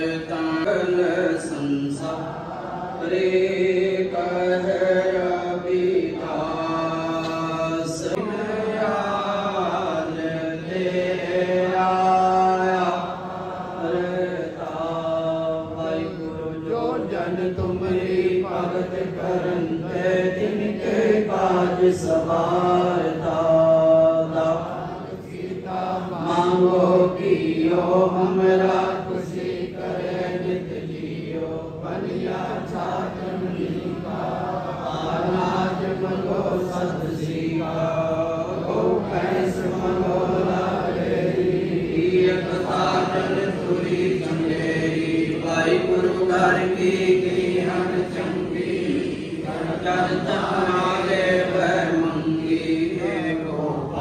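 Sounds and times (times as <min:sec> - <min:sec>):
person chanting hymns: 0:00.0 - 0:54.0
steady held drone: 0:00.0 - 0:54.0.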